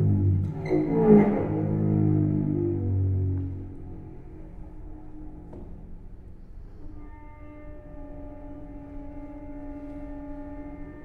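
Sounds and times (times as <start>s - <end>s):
cello bowed low note: 0.0s - 11.0s
faint hall ring: 0.0s - 11.0s.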